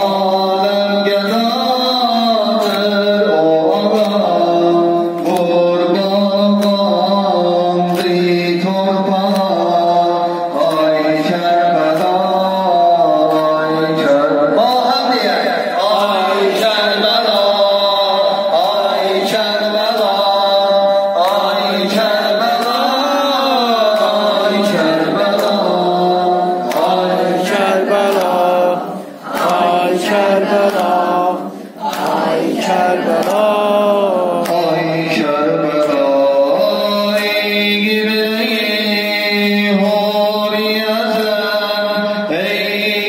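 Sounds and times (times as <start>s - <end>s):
man chanting into a microphone: 0.0s - 43.0s.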